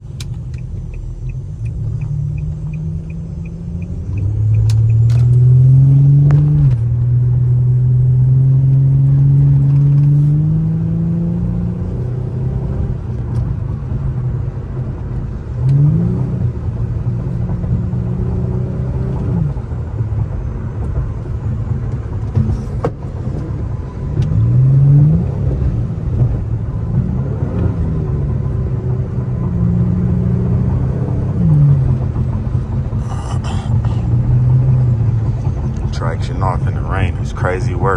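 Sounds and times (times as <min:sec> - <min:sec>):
car engine accelerating: 0:00.0 - 0:37.9.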